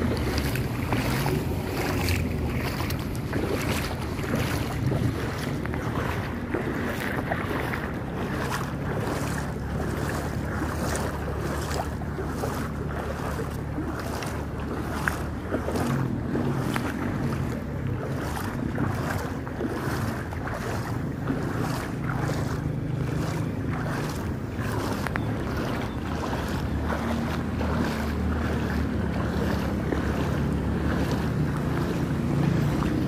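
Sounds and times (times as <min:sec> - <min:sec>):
vehicle engine running: 0:00.0 - 0:33.0
water sloshing and splashing: 0:00.0 - 0:33.0
wind buffeting microphone: 0:00.0 - 0:33.0.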